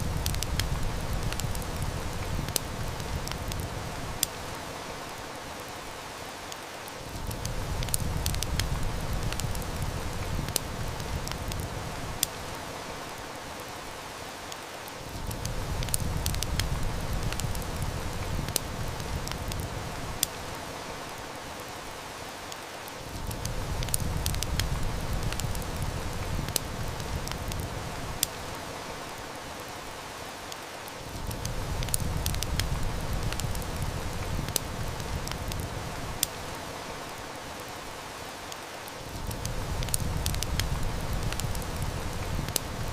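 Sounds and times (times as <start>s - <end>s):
heavy rain hiss: 0.0s - 42.9s
wood fire crackling: 0.0s - 42.9s.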